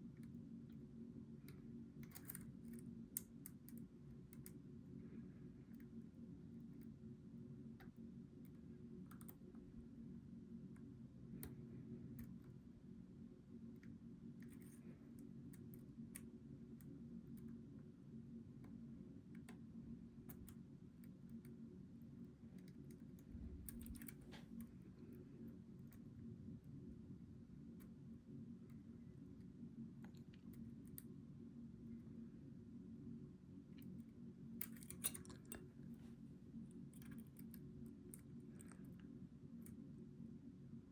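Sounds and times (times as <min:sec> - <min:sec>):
low hum: 0:00.0 - 0:40.9.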